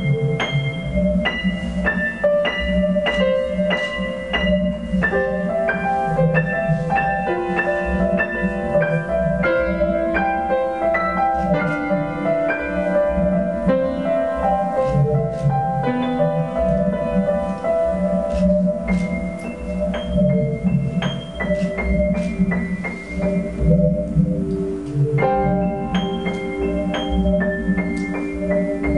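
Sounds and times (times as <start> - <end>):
low rumbling drone: 0.0 - 28.9
piano single notes: 0.0 - 28.9.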